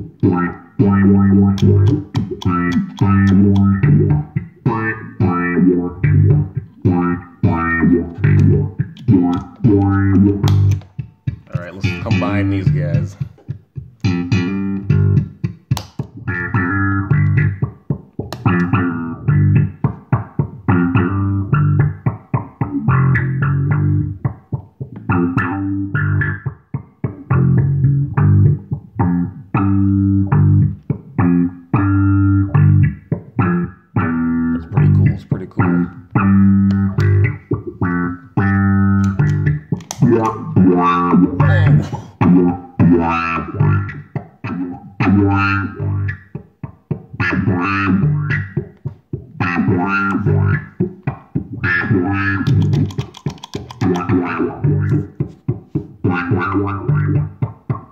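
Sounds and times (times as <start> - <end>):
choppy electric bass line: 0.0 - 57.9.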